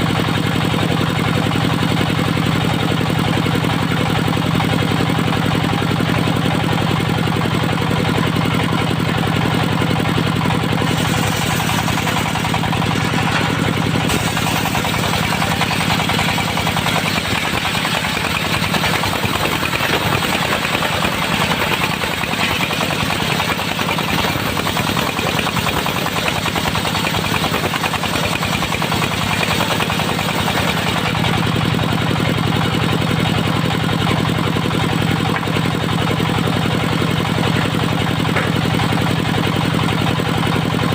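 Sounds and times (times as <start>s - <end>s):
sawmill diesel engine running: 0.0s - 40.9s.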